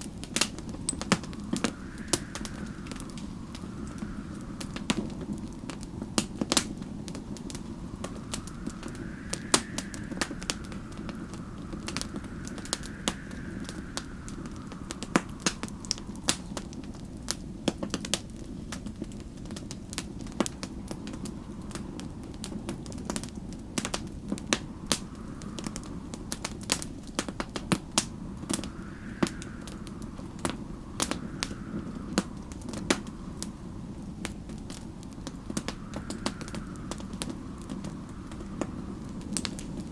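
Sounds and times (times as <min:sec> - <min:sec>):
low fire rumble: 0:00.0 - 0:39.9
storm wind gusts: 0:00.0 - 0:39.9
wood fire crackling and popping: 0:00.0 - 0:39.9.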